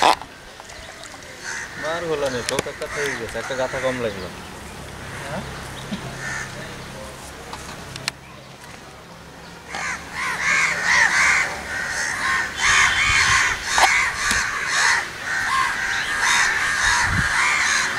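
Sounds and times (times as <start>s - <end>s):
crows cawing: 0.0s - 6.8s, 9.7s - 17.9s.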